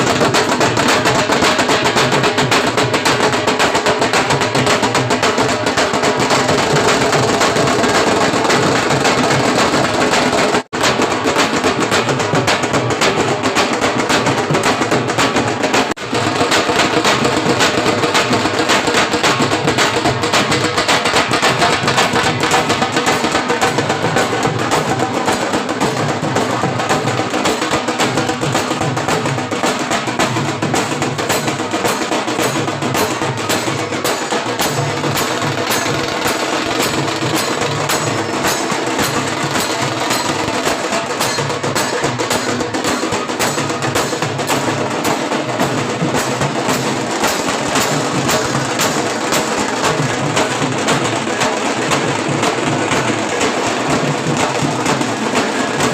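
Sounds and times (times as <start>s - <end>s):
music with rapid percussion: 0.0s - 55.9s.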